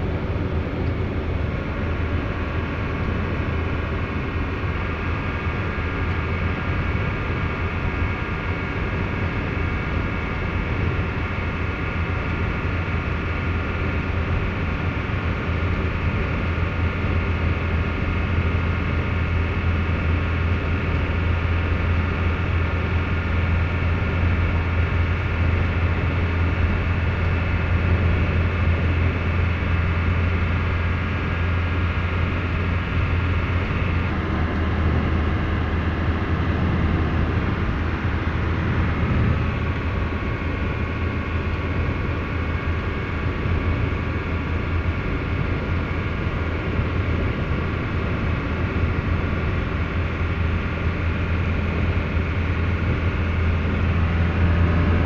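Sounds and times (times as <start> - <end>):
road and tyre noise: 0.0 - 55.0
vehicle engine hum: 0.0 - 55.0.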